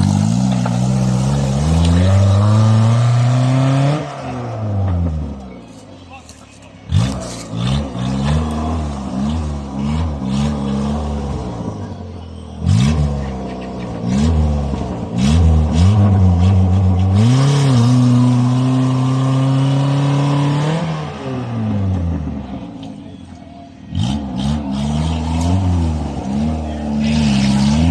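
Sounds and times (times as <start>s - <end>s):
off-road vehicle engine revving: 0.0s - 27.9s.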